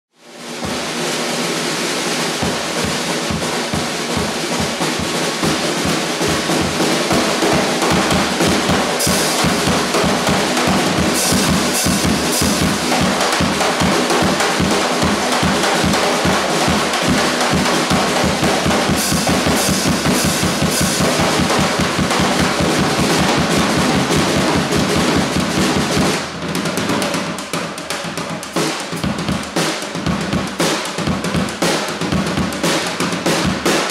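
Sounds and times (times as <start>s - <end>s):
cymbal crashes: 0.2s - 33.9s
drum kit playing: 0.2s - 33.9s.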